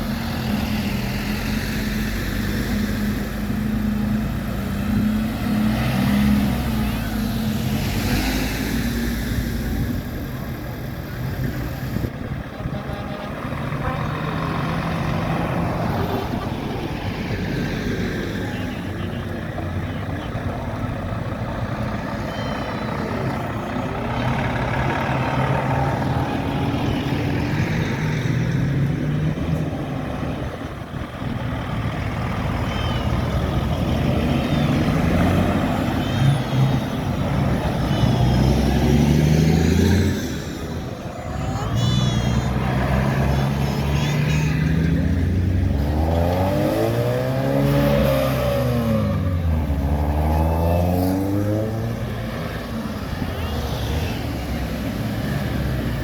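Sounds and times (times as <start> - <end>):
tractor and vehicle engines passing: 0.0 - 56.0.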